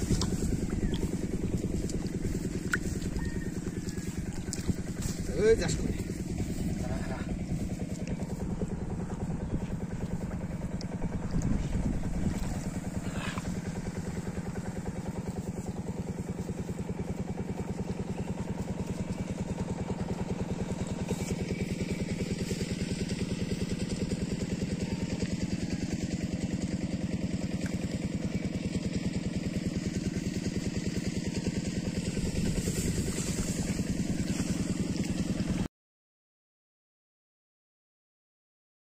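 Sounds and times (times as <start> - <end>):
small engine running: 0.0 - 35.7.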